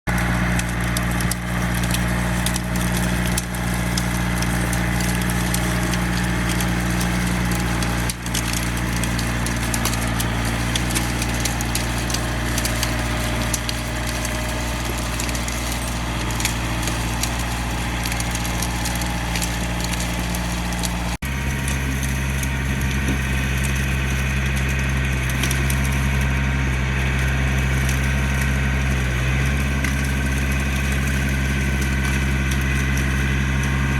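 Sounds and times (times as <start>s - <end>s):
tractor diesel engine running: 0.1s - 33.9s
plant stalks cracking and snapping: 0.2s - 33.9s.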